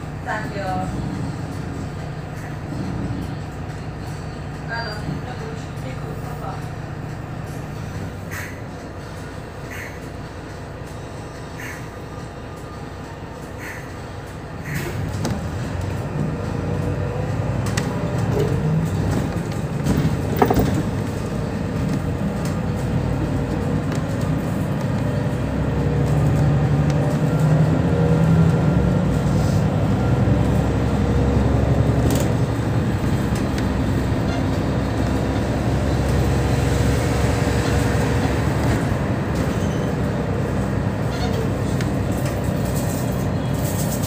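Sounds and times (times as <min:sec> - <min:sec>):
bus diesel engine running: 0:00.0 - 0:44.0
road noise: 0:00.0 - 0:44.0.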